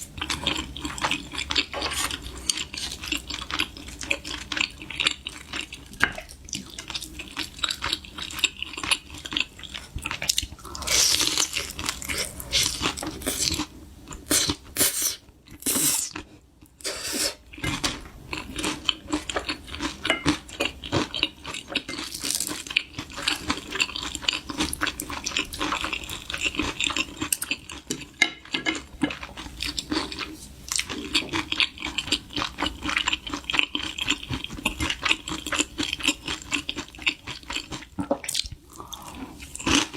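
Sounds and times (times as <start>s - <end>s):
crunching and chewing food: 0.0s - 14.7s, 17.4s - 39.9s.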